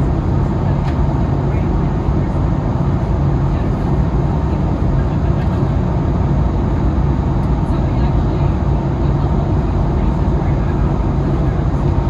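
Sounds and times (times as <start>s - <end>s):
jet engine and airflow noise: 0.0s - 12.0s.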